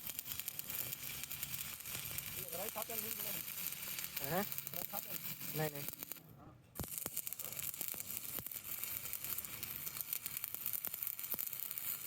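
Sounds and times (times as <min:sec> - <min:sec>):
welding arc crackling: 0:00.0 - 0:06.2, 0:06.8 - 0:12.0.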